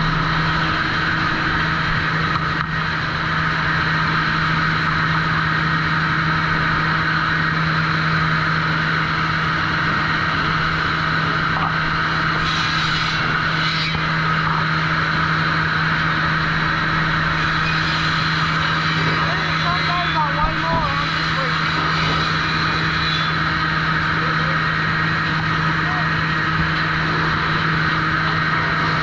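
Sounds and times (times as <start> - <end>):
saw machinery running: 0.0 - 29.0.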